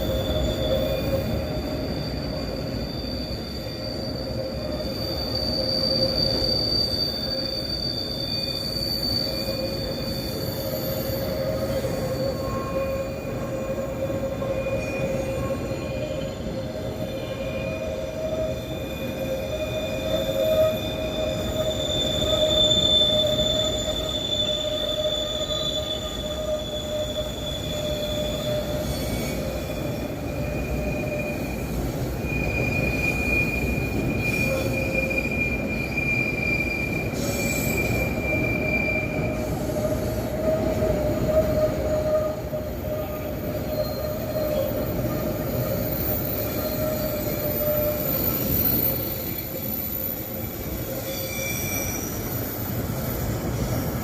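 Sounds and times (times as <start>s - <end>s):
low rumble of train: 0.0s - 54.0s
train wheels squealing on rails: 0.0s - 54.0s.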